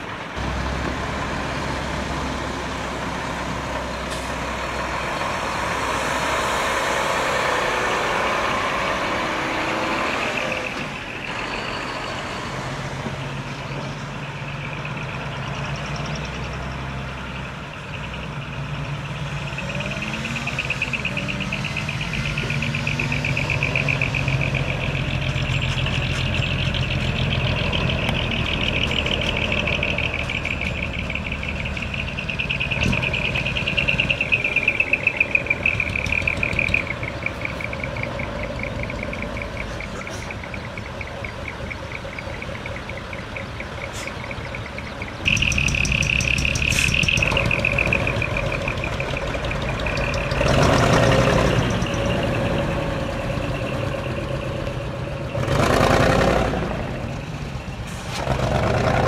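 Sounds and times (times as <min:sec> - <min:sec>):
diesel truck engines rasping: 0:00.0 - 0:59.0.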